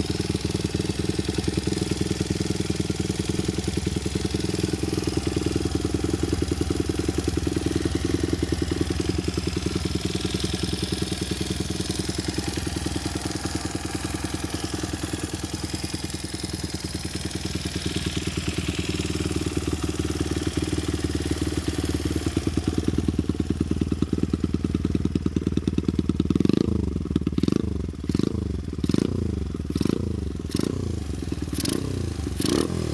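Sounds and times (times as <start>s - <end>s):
small engine idling and revving: 0.0s - 32.9s.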